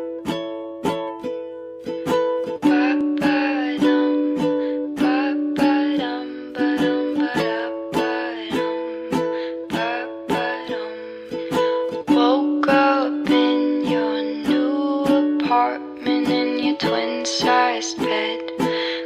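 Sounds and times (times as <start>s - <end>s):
strummed ukulele chords: 0.0s - 19.0s.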